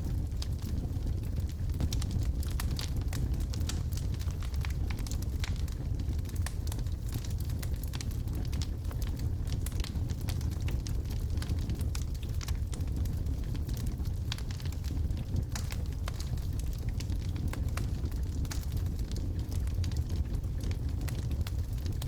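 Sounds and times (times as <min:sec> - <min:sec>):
burning wood crackling: 0:00.0 - 0:22.0
fire rumbling: 0:00.0 - 0:22.0.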